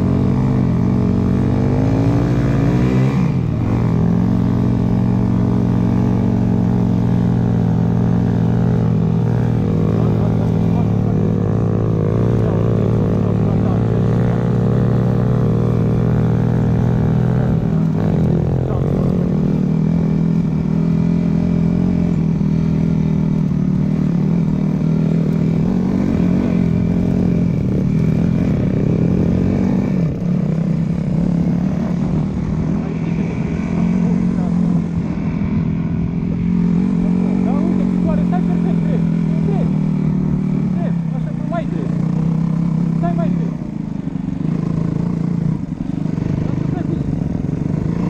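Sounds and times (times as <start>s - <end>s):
dirt bike engine running: 0.0s - 48.0s.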